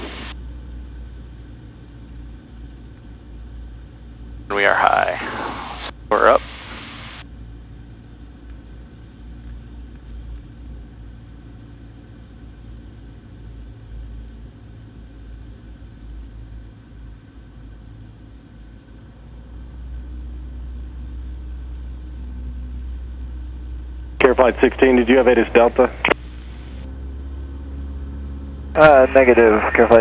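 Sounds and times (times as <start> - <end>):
airplane engine and propeller drone: 0.0 - 30.0.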